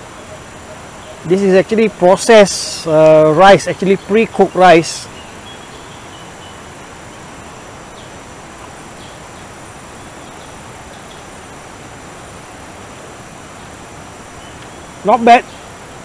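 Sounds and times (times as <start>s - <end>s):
even hiss: 0.0s - 16.0s
faint high insect sounds: 0.0s - 16.0s.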